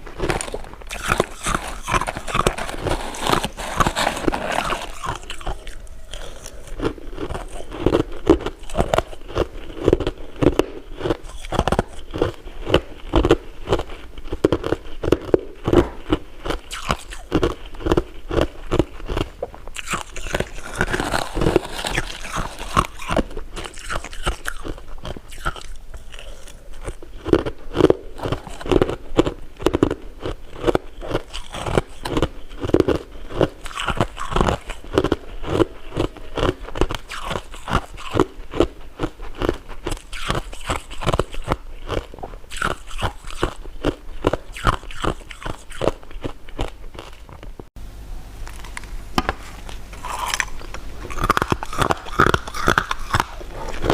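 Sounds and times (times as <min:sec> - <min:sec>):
crunching bites and chewing: 0:00.0 - 0:47.6, 0:48.5 - 0:53.9.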